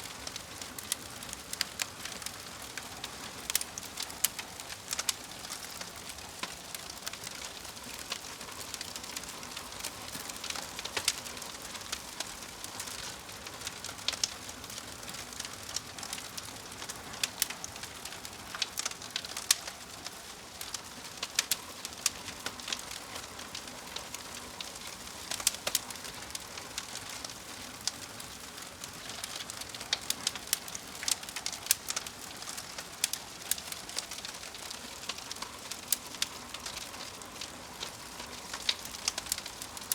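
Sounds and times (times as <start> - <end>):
steady fire hiss: 0.0 - 39.9
wood fire crackling and popping: 0.0 - 39.9.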